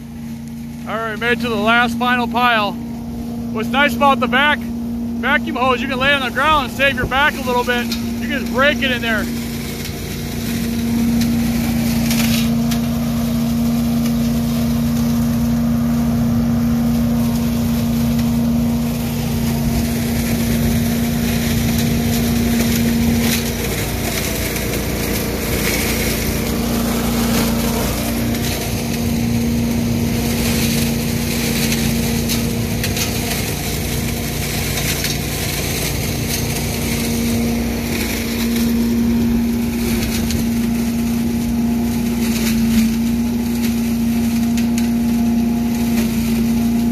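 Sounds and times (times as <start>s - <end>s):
leaves crackling through hose: 0.0s - 46.9s
vacuum loader engine humming: 0.0s - 46.9s.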